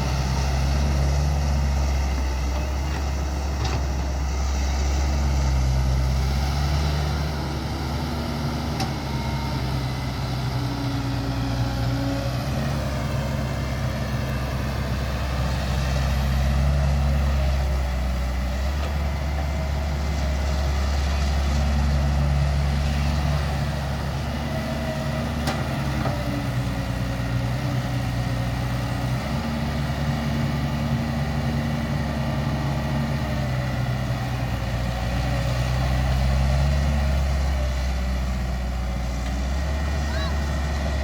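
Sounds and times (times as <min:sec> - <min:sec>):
diesel engine drone: 0:00.0 - 0:41.0.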